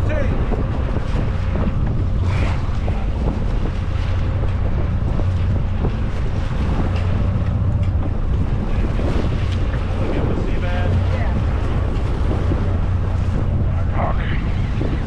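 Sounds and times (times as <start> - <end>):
steady low rumble: 0.0 - 15.0
water sloshing against hull: 0.0 - 15.0
wind buffeting microphone: 0.0 - 15.0.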